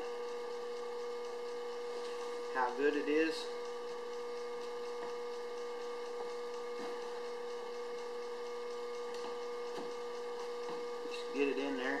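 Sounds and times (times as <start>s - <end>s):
electrical hum with steady tone: 0.0s - 12.0s.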